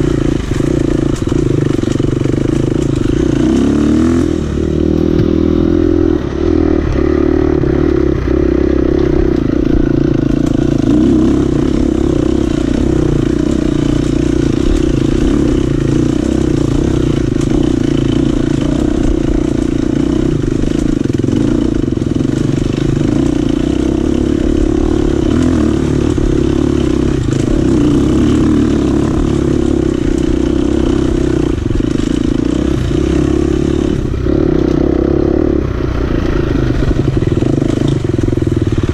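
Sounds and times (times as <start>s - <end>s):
bike knocks and rattles: 0.0s - 38.9s
dirt bike engine running: 0.0s - 38.9s.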